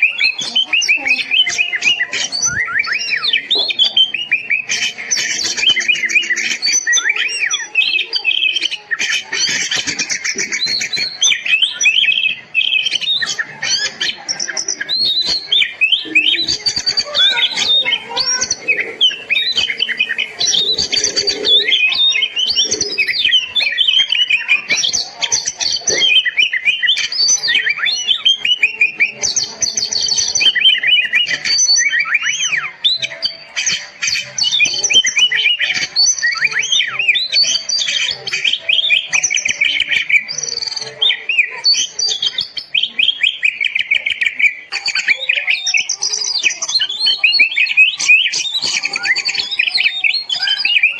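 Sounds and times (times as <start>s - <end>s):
bird singing whistles and trills: 0.0s - 50.9s.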